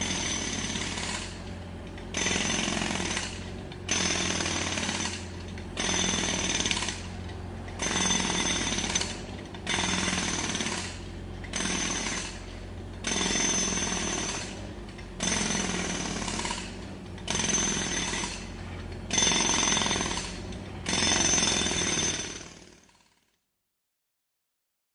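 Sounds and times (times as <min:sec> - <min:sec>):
jackhammer breaking pavement: 0:00.0 - 0:23.3.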